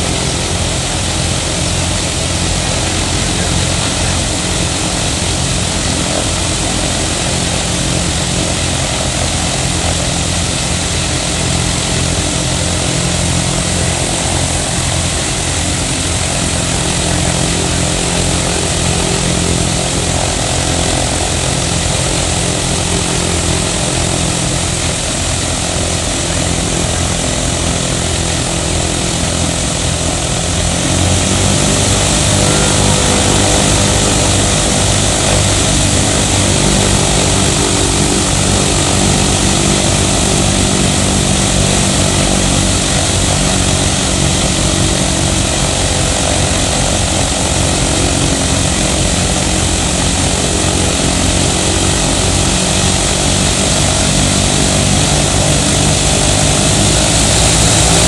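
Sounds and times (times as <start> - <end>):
radial aircraft engine droning: 0.0 - 58.0.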